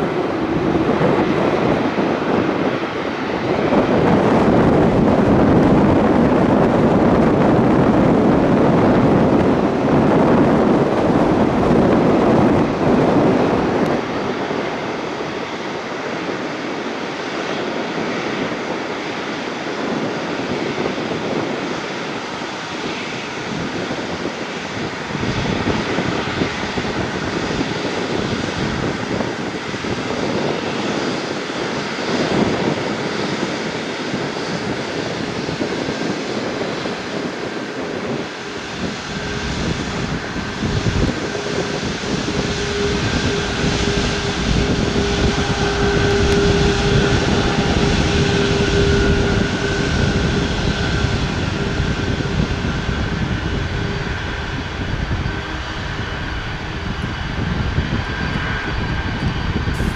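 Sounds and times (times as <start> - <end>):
jet engines of passing airliner: 0.0 - 59.9.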